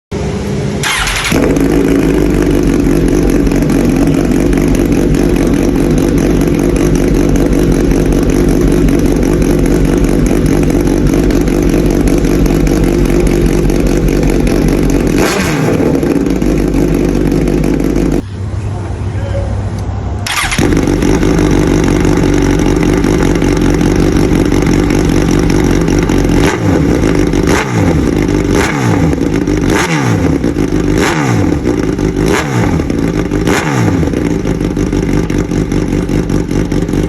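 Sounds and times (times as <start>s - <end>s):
motorcycle engine running: 0.6s - 18.2s, 20.2s - 37.0s.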